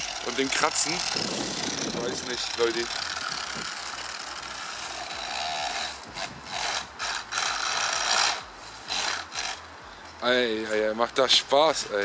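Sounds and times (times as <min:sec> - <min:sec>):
toy truck drivetrain grinding: 0:00.0 - 0:09.7.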